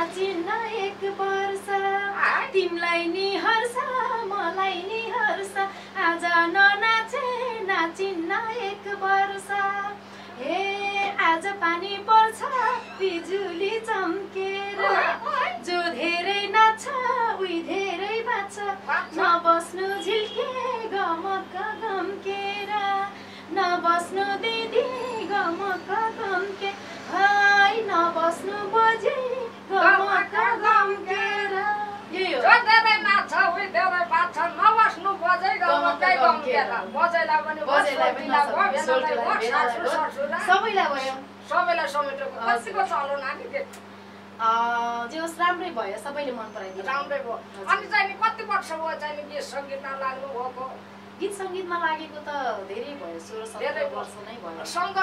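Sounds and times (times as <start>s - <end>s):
woman singing unaccompanied: 0.0s - 43.8s, 47.1s - 55.0s
faint electrical hum: 0.0s - 55.0s.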